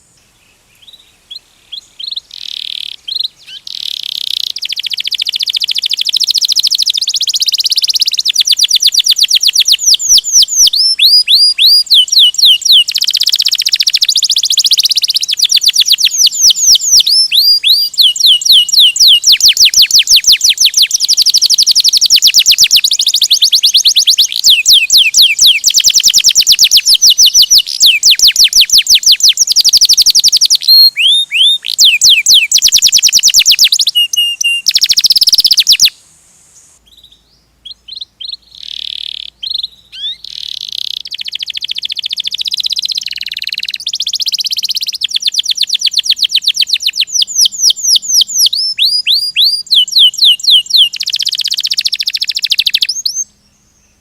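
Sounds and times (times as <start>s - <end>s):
canary singing trills: 0.0s - 36.0s, 36.8s - 54.0s.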